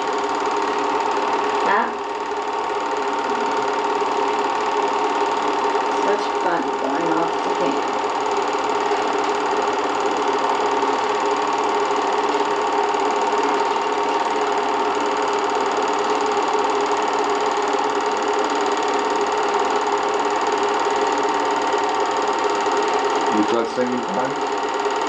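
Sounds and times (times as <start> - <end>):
film projector whirring and clattering: 0.0 - 25.0.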